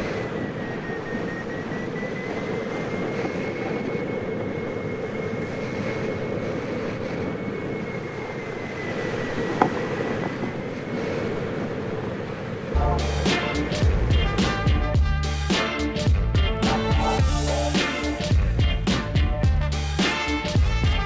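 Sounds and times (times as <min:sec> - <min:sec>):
rush of air in flight: 0:00.0 - 0:21.0.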